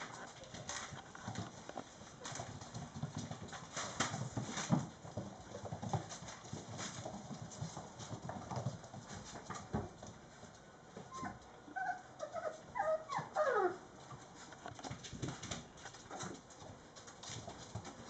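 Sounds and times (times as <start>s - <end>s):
puppy paws clicking on wooden floor: 0.0s - 18.0s.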